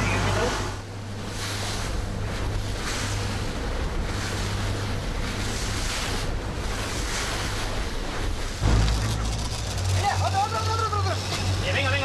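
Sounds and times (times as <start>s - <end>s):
boat engine humming: 0.0s - 12.0s
waves washing: 0.0s - 12.0s.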